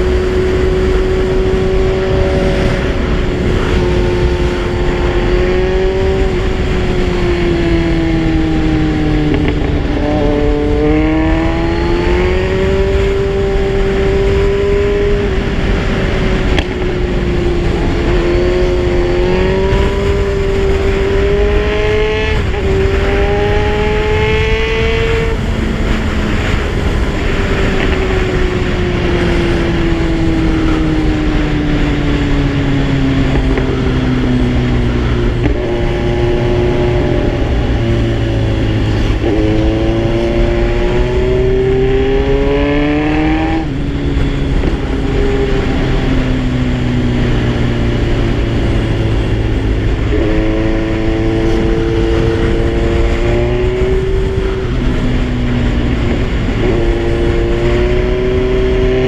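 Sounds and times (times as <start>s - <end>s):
motorcycle engine running: 0.0s - 59.0s
steady rush of noise: 0.0s - 59.0s.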